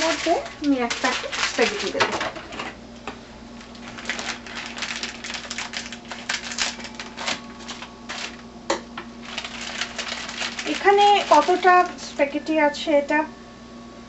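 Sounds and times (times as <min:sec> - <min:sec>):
plastic wrapper crinkling: 0:00.0 - 0:02.5, 0:03.5 - 0:12.4
steady low hum: 0:00.0 - 0:14.0.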